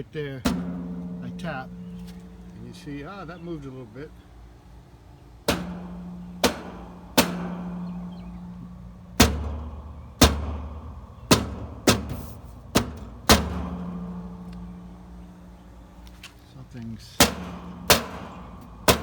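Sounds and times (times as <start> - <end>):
air conditioner low hum: 0.0 - 19.0
hand knocking on metal unit: 0.4 - 4.3, 5.4 - 15.9, 17.2 - 19.0.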